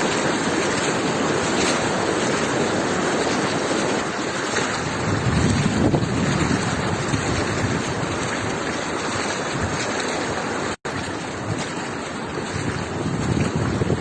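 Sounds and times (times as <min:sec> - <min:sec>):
floodwater rushing: 0:00.0 - 0:14.0
wind buffeting microphone: 0:00.0 - 0:14.0.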